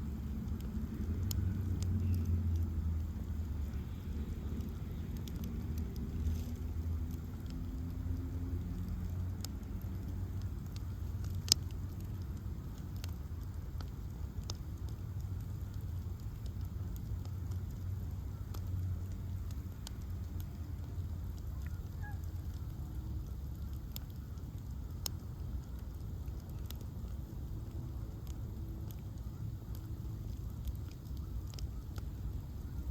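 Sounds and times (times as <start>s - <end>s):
fire crackles and pops: 0.0s - 32.9s
low rush of bonfire: 0.0s - 32.9s.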